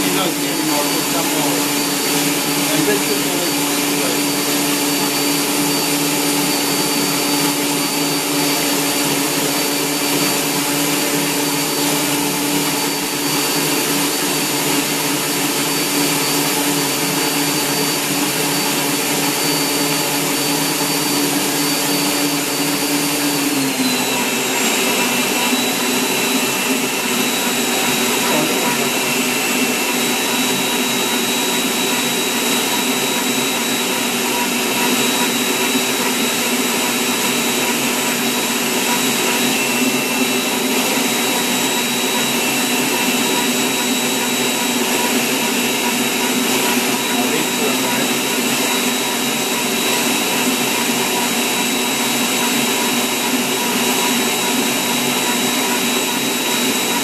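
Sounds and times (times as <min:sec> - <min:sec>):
electric stand mixer motor whine: 0:00.0 - 0:57.0.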